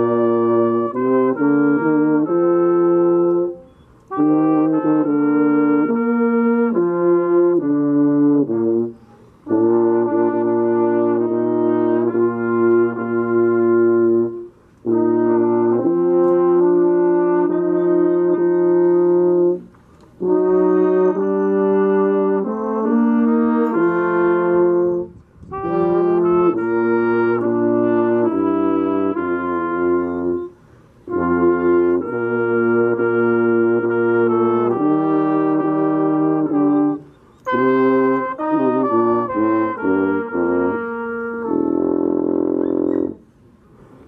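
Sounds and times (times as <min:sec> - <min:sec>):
slow brass tune: 0:00.0 - 0:44.0.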